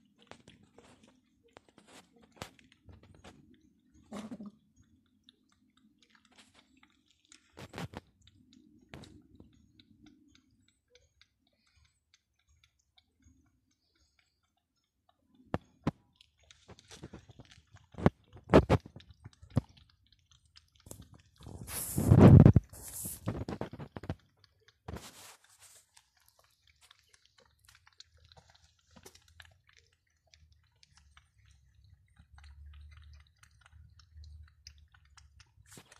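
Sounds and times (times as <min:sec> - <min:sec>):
cats lapping and chewing food: 0:00.0 - 0:35.9.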